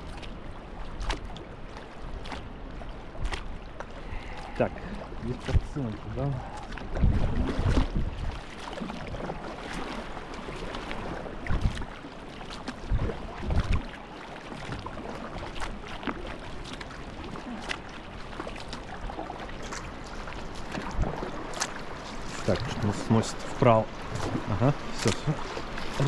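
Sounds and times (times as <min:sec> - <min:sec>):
paddle splashes: 0:00.0 - 0:26.0
rushing river water: 0:00.0 - 0:26.0.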